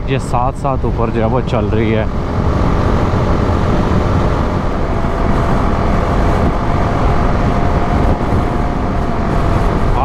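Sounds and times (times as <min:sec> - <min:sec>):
wind and road noise: 0:00.0 - 0:10.0
motorcycle engine running: 0:01.3 - 0:10.0.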